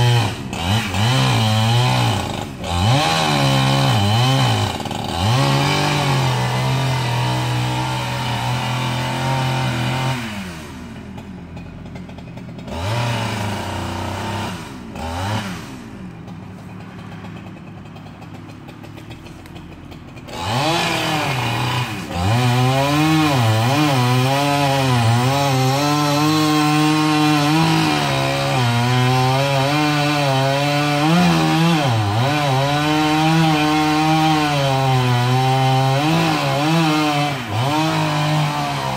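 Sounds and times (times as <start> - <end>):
chainsaw revving and cutting wood: 0.0 - 38.9.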